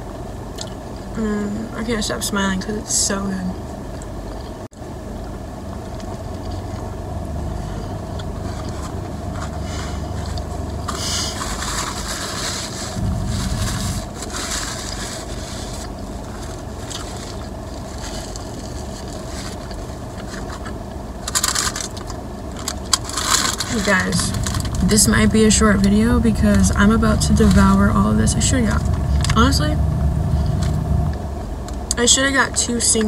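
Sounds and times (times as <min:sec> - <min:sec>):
car hum: 0:00.0 - 0:33.0.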